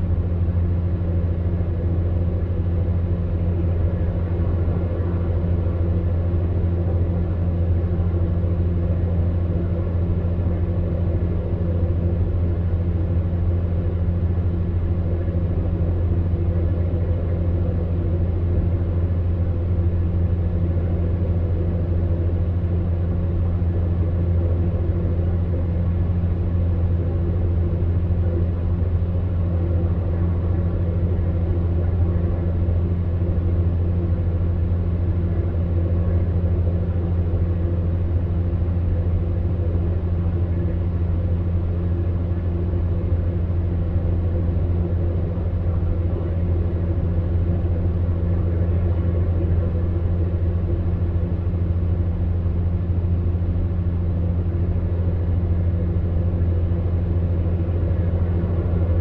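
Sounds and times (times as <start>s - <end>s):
fan heater motor hum: 0.0s - 59.0s.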